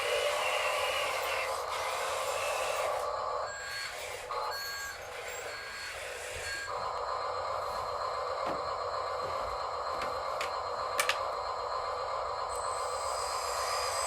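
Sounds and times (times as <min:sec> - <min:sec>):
electric motor whine: 0:00.0 - 0:14.0
reversing beeper: 0:00.5 - 0:14.0.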